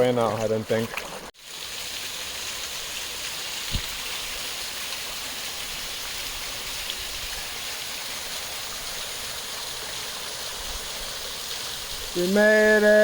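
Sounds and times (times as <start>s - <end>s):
stream rushing over rocks: 0.8s - 13.0s.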